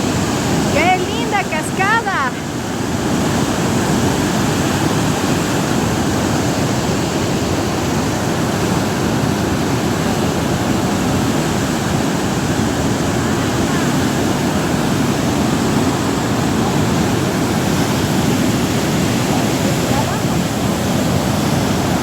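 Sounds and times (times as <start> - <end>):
waterfall crashing: 0.0 - 22.0.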